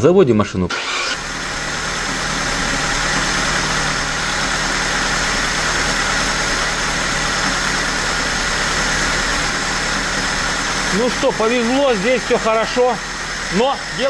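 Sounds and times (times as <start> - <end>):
car engine idling: 0.7 - 14.0.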